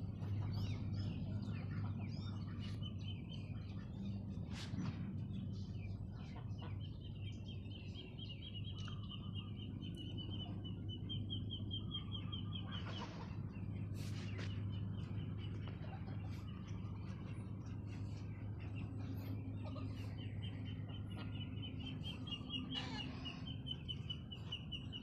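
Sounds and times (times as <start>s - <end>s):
steady low hum: 0.0s - 25.0s
harsh bird calls: 0.4s - 25.0s.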